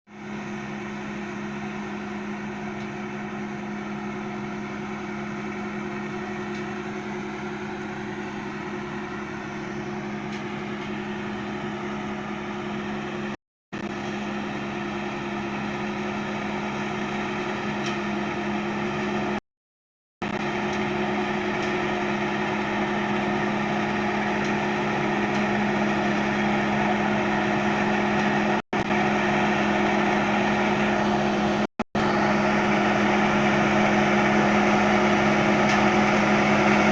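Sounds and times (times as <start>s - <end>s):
combine harvester engine drone: 0.1s - 19.4s, 20.2s - 36.9s.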